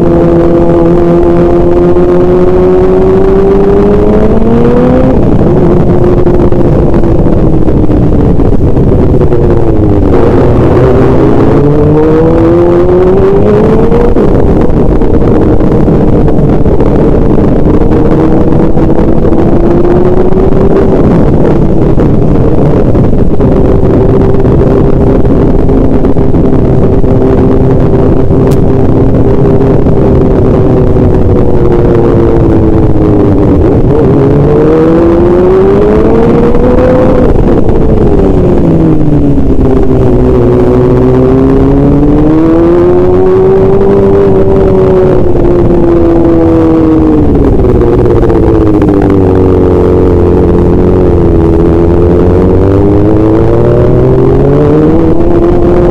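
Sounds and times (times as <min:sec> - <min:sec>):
road and wind noise: 0:00.0 - 0:55.9
vehicle engine running: 0:00.0 - 0:55.9.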